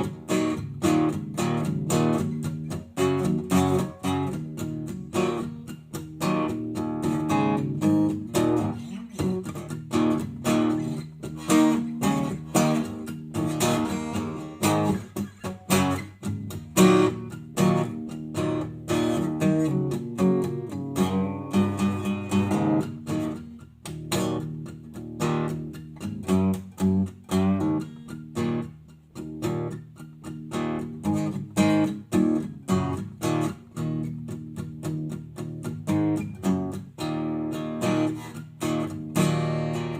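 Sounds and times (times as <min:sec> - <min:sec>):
guitar strumming chords: 0:00.0 - 0:39.9.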